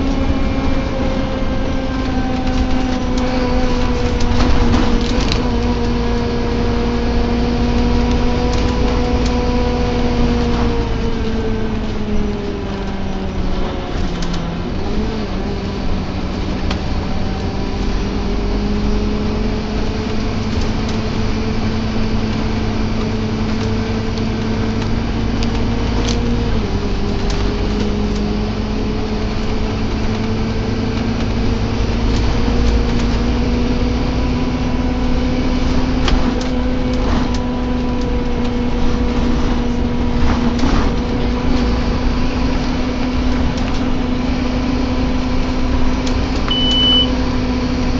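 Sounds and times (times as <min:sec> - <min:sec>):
bus engine rumble: 0:00.0 - 0:47.9.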